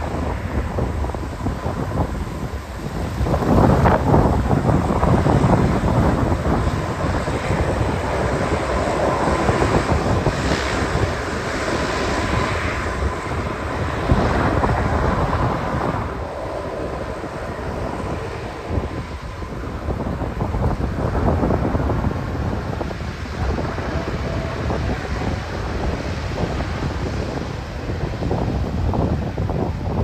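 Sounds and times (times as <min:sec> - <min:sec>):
aircraft engines rushing: 0:00.0 - 0:30.0
wind buffeting microphone: 0:00.0 - 0:30.0.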